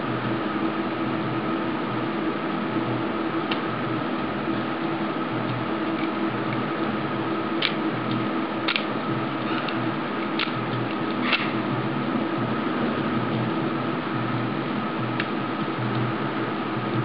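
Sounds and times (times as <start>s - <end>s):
steady hum and hiss: 0.0s - 17.0s.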